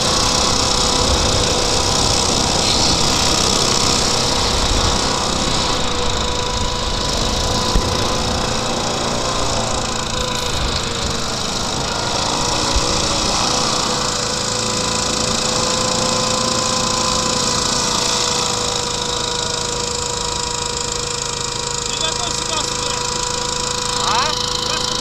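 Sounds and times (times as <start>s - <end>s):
hovercraft engine and propeller running: 0.0s - 25.0s
steady machine whine: 0.0s - 25.0s.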